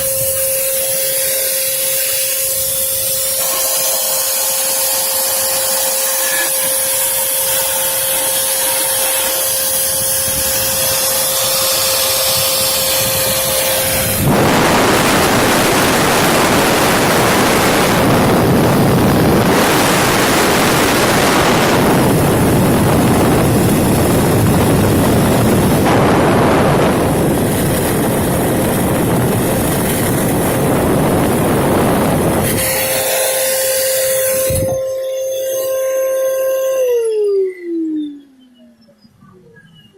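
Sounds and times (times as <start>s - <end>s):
shop vacuum running: 0.0s - 38.9s
steady whine: 0.0s - 39.9s.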